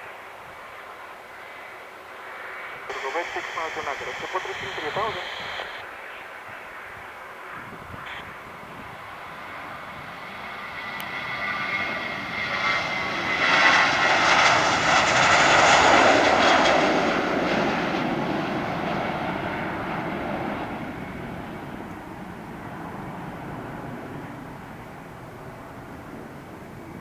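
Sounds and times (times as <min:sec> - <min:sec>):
jet airliner roaring past: 0:01.3 - 0:27.0.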